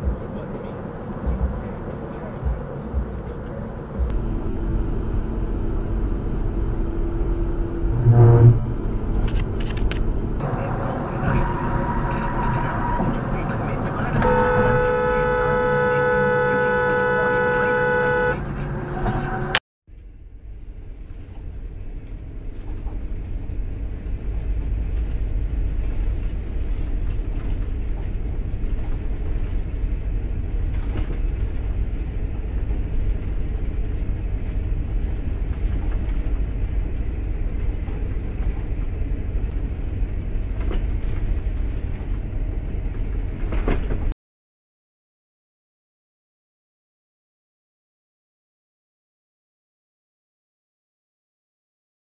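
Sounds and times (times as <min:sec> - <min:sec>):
car interior road and engine rumble: 0:00.0 - 0:44.1.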